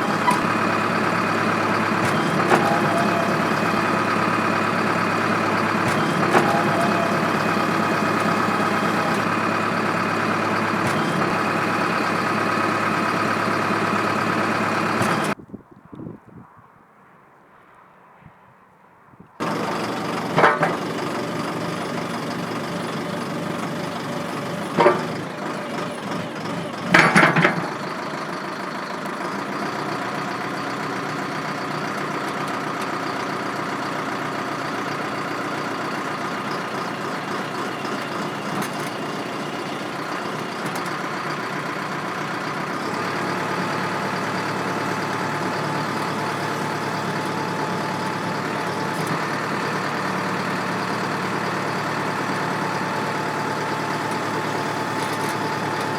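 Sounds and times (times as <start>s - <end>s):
diesel engine running: 0.0s - 15.4s, 19.4s - 55.9s.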